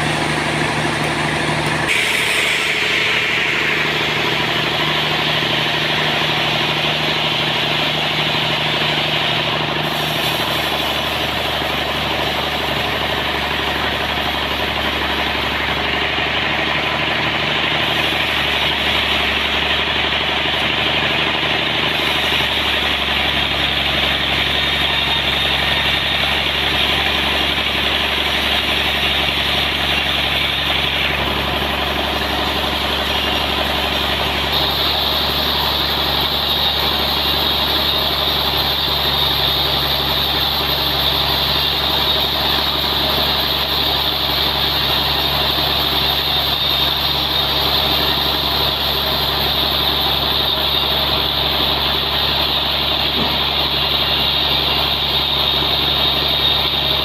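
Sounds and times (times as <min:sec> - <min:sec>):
saw hissing: 0:00.0 - 0:15.9, 0:21.9 - 0:57.0
sawmill engine running: 0:00.0 - 0:57.0.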